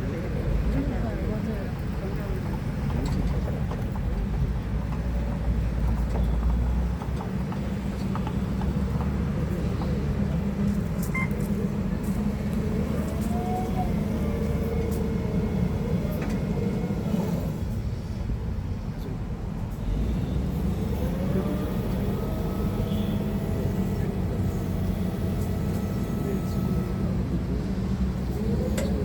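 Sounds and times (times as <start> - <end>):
forklift machine hum: 3.6 - 18.0, 19.8 - 29.0.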